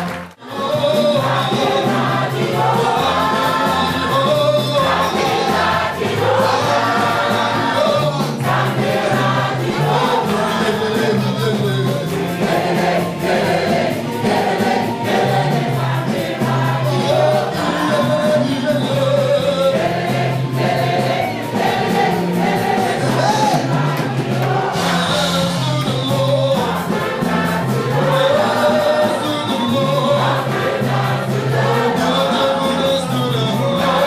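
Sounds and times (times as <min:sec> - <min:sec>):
band with bass line: 0:00.0 - 0:34.0
choir singing gospel song: 0:00.0 - 0:34.0.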